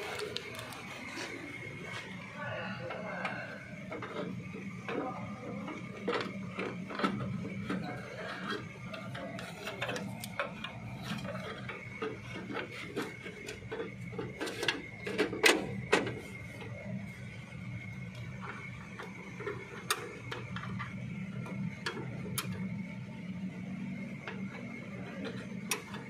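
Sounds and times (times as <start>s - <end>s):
faint high whine: 0.0s - 26.0s
low electrical hum: 0.0s - 26.0s.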